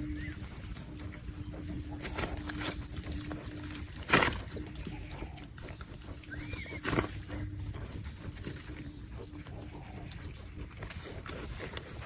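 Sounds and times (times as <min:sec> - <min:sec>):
pigs feeding: 0:00.0 - 0:12.0.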